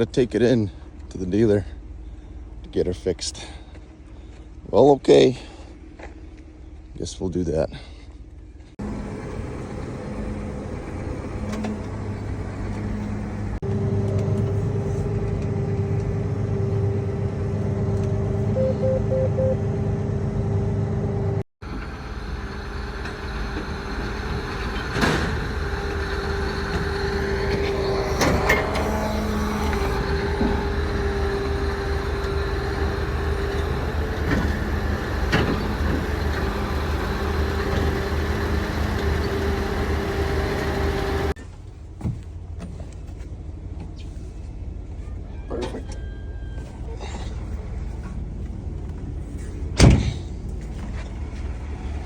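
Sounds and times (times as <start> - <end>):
vehicle engine drone: 0.0 - 52.0.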